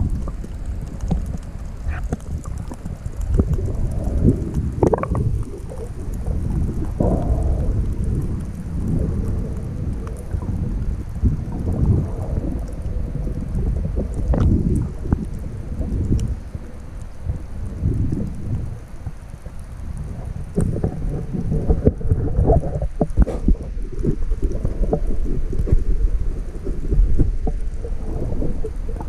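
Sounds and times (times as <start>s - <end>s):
bubbly splashes: 0.0s - 29.0s
muffled underwater rumble: 0.0s - 29.0s.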